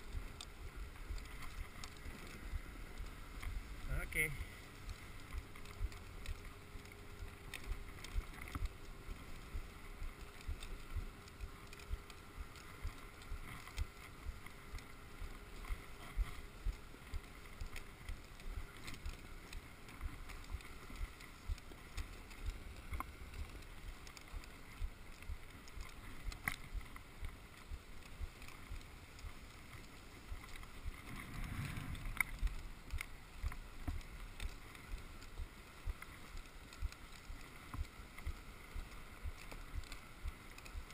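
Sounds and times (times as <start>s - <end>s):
sled runners hissing over snow: 0.0s - 40.9s.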